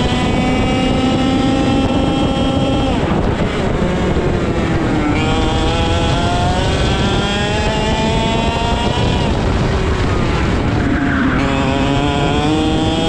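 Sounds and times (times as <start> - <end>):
kart engine revving: 0.0 - 13.0.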